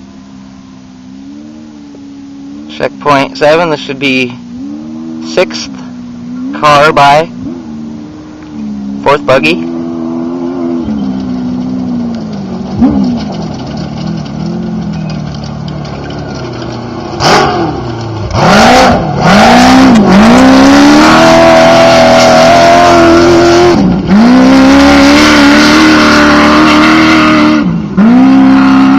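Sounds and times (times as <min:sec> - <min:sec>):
race buggy engine revving: 0:00.0 - 0:28.9.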